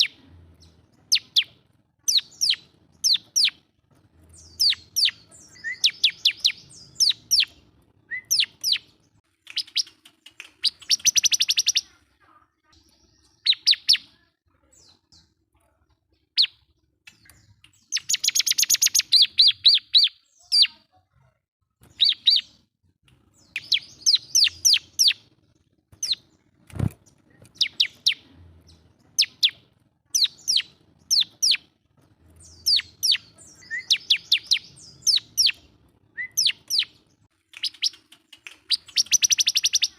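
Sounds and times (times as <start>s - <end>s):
bird chirping and trilling: 0.0s - 3.6s, 4.2s - 15.3s, 16.2s - 20.9s, 21.8s - 22.6s, 23.3s - 25.3s, 26.0s - 31.7s, 32.3s - 39.9s.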